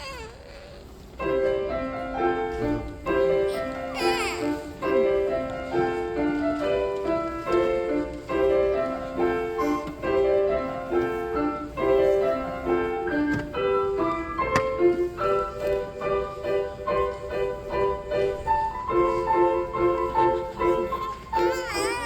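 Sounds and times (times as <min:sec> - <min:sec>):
piano melody: 0:01.0 - 0:22.0.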